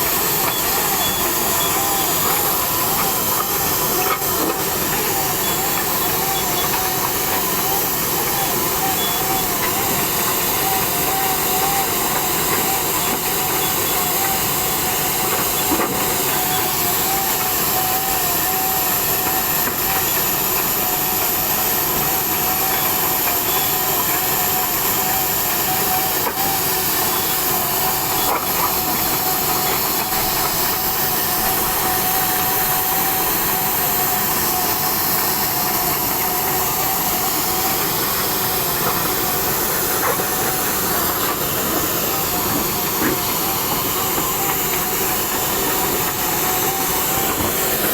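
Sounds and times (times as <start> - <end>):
machine hissing: 0.0 - 47.9
wavering machine whine: 0.0 - 47.9.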